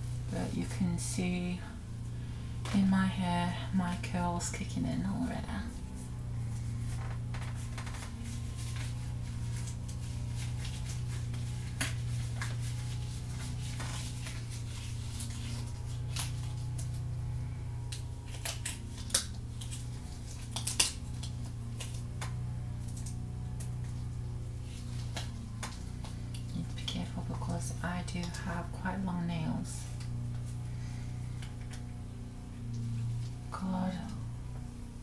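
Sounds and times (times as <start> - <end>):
disposable gloves crackling: 0.0 - 33.5
steady low hum: 0.0 - 35.0.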